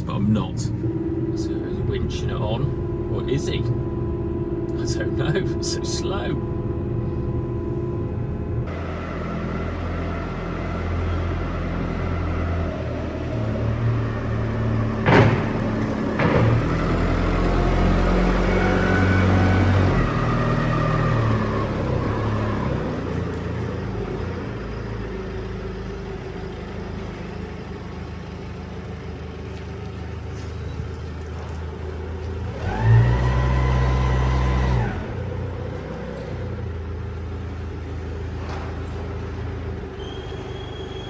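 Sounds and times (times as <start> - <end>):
engine revving with whine: 0.0 - 41.0
vehicle engine running: 0.0 - 41.0.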